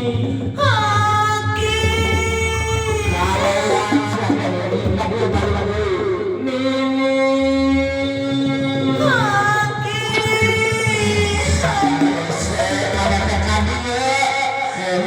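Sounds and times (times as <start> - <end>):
instrumental accompaniment with bass: 0.0 - 14.4.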